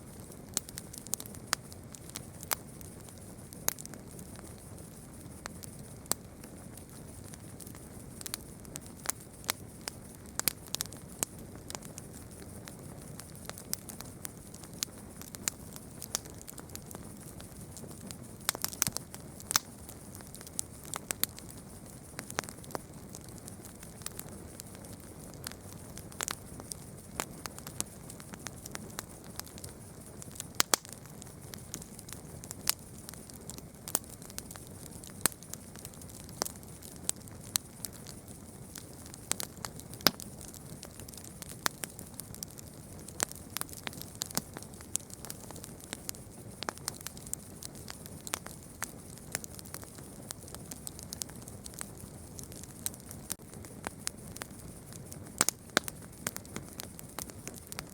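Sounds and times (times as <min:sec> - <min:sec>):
campfire crackling: 0:00.0 - 0:57.9.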